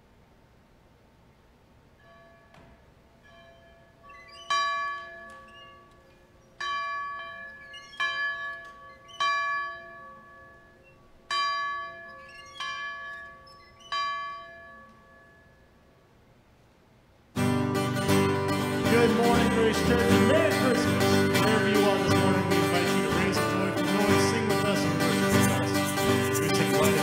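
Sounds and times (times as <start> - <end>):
church bell ringing: 2.0 - 15.8, 17.5 - 27.0.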